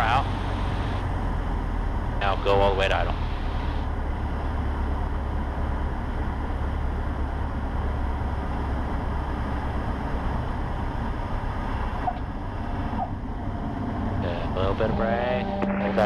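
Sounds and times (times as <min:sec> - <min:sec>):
airplane engine droning: 0:00.0 - 0:16.0.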